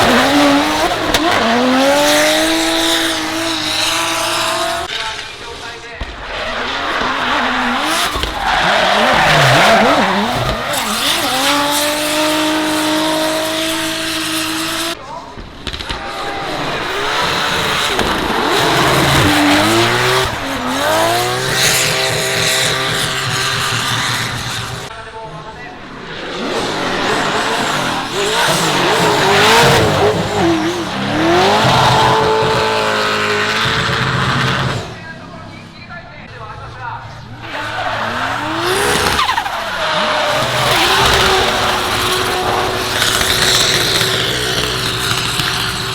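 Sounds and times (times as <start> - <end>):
car engine revving: 0.0 - 15.0, 15.6 - 24.9, 25.8 - 45.9
tyre noise on wet track: 0.0 - 15.0, 15.6 - 24.9, 25.8 - 35.6, 37.2 - 45.9.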